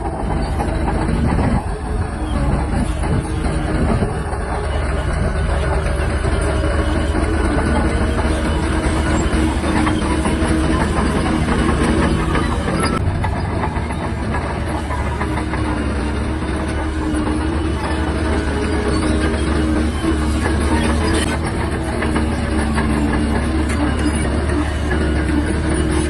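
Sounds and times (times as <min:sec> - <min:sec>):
bulldozer diesel engine running: 0:00.0 - 0:26.0
steel tracks clattering: 0:00.0 - 0:26.0.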